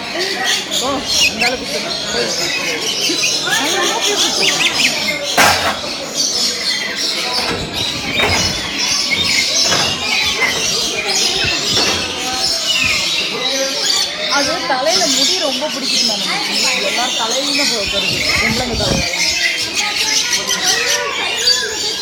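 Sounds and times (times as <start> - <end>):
flock of birds squawking: 0.0 - 22.0
people's voices: 0.0 - 22.0.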